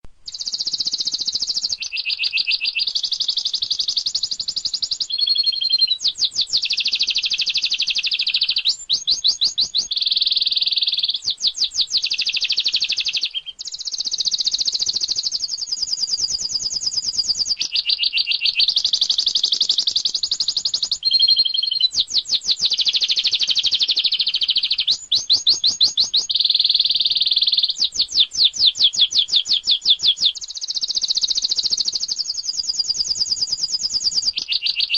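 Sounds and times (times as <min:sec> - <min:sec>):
canary singing: 0:00.3 - 0:34.9.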